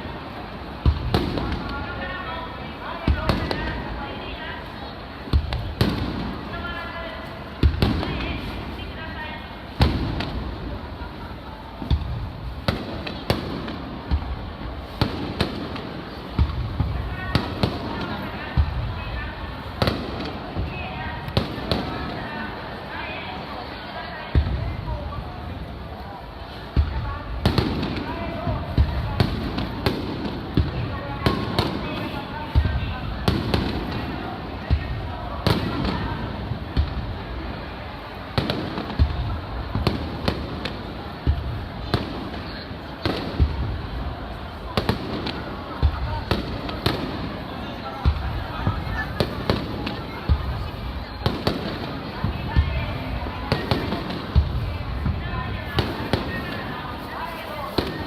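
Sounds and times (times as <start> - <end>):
background noise: 0.0 - 58.0
fireworks bursting: 0.0 - 58.0.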